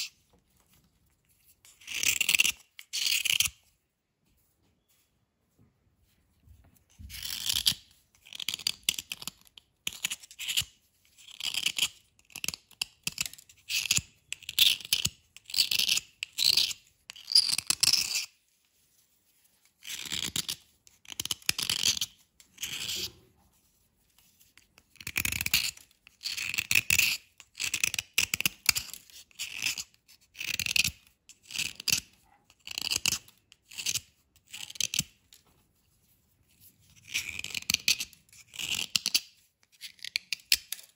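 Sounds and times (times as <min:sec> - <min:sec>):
knife blade scraping chalk: 0:00.0 - 0:03.8, 0:07.0 - 0:40.9.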